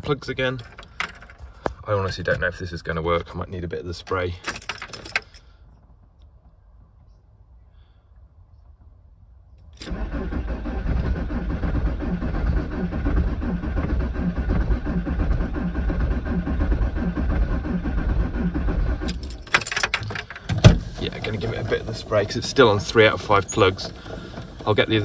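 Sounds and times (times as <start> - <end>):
diesel engine cranking: 0.0 - 5.6, 9.7 - 25.0.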